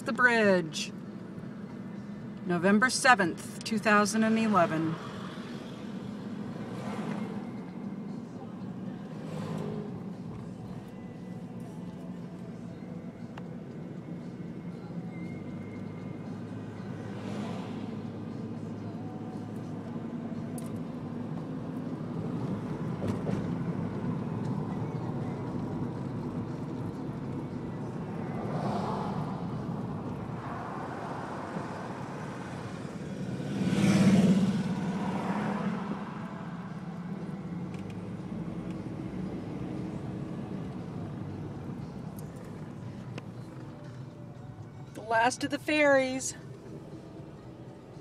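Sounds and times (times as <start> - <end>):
car road and tyre noise: 0.0 - 48.0.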